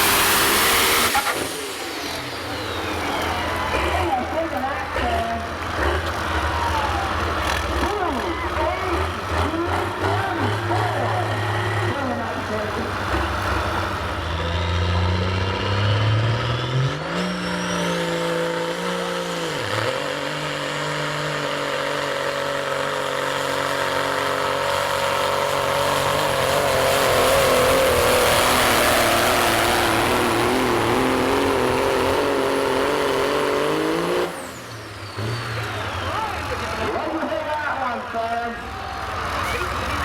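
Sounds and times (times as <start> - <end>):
vehicle engine under load: 0.0 - 40.0.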